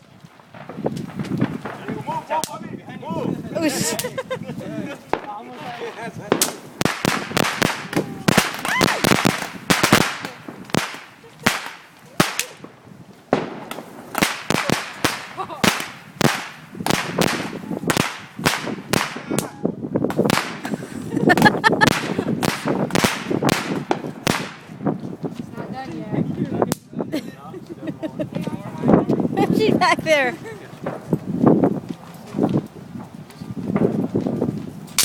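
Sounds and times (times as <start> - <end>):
fireworks cracking and popping: 0.0 - 27.0, 27.6 - 35.0.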